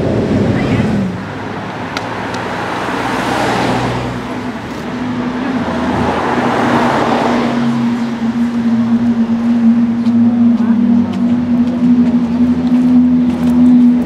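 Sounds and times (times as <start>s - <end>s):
car passing: 0.0s - 14.0s
low car engine note: 0.0s - 14.0s.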